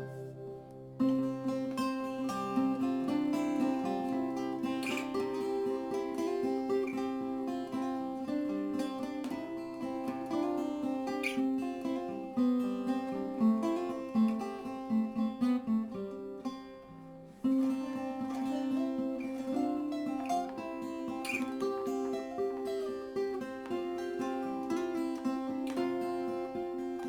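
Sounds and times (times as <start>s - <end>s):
acoustic guitar playing: 0.0s - 27.0s.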